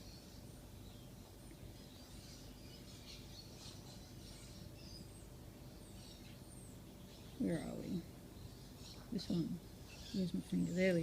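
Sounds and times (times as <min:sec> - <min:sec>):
birds chirping: 0:00.0 - 0:11.0
low steady hum: 0:00.0 - 0:11.0.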